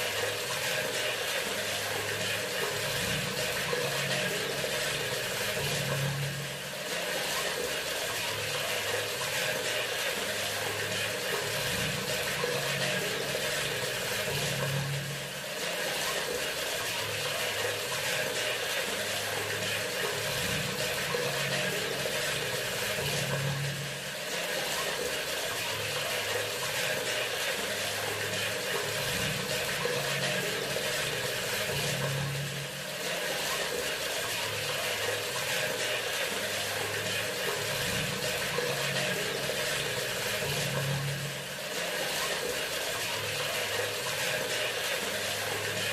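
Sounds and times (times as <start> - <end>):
faucet running water: 0.0 - 45.9.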